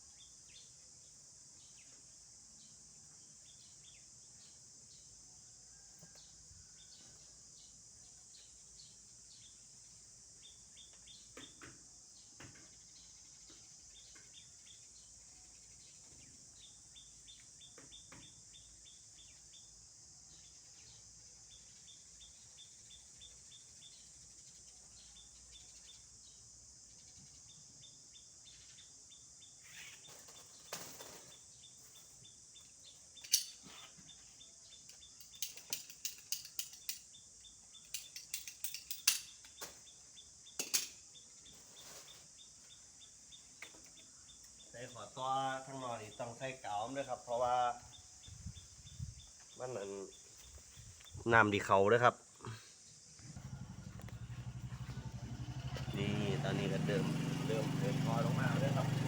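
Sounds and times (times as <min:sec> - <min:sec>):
insect hiss: 0:00.0 - 0:59.0.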